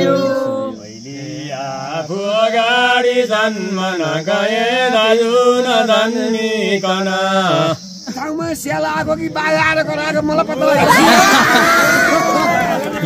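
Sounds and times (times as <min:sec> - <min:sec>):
boy chanting devotional song: 0:00.0 - 0:10.6.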